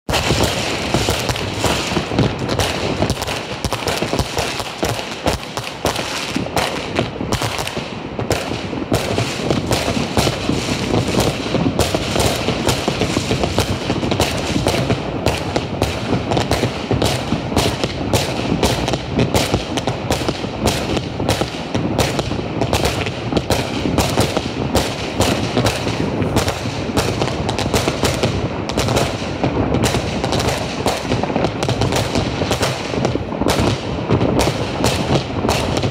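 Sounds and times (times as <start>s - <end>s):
fireworks bangs and crackles: 0.1s - 35.9s.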